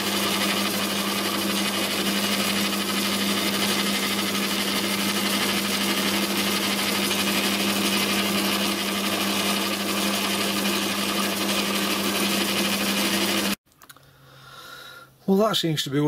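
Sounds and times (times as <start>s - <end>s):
motor hum: 0.0s - 13.6s
spinning gears whirring: 0.0s - 13.6s.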